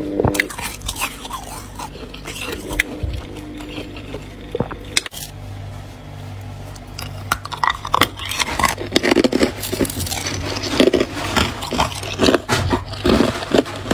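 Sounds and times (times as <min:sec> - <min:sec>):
low steady hum: 0:00.0 - 0:13.9
ice crunching being chewed: 0:00.2 - 0:05.4, 0:06.7 - 0:13.9.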